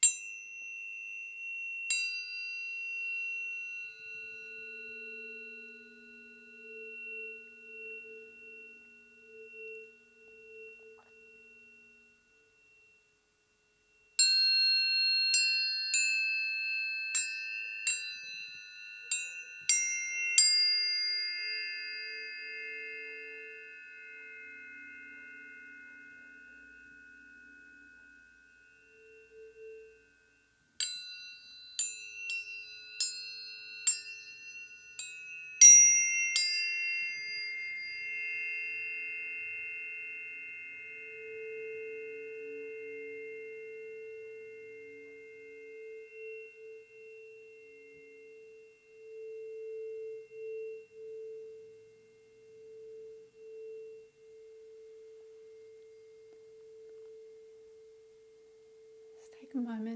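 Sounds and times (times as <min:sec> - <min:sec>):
low pulsing ringing tone: 0:00.0 - 0:59.9
tuning forks clanging and ringing: 0:00.0 - 0:59.9.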